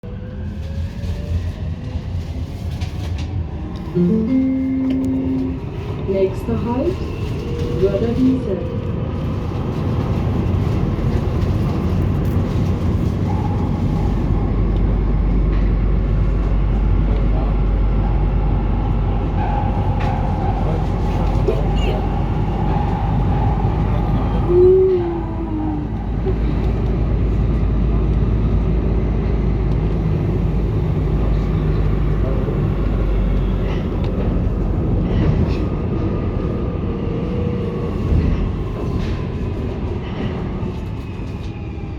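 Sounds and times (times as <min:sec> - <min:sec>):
subway train rumbling: 0:00.0 - 0:41.9.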